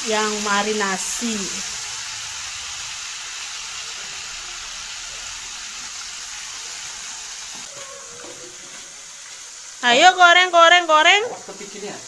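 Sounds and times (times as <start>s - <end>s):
shrimp sizzling in hot oil: 0.0s - 12.0s.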